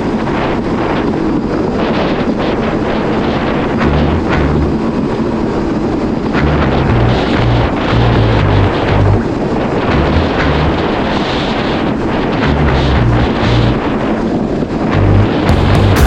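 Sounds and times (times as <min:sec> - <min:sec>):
wind buffeting microphone: 0:00.0 - 0:15.5.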